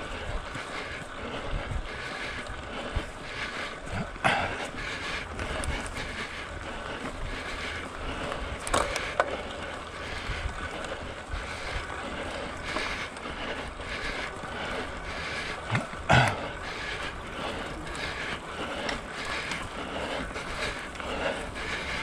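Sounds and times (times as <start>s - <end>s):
bicycle tyre noise: 0.0s - 22.0s
rattling bicycle drivetrain: 0.0s - 22.0s.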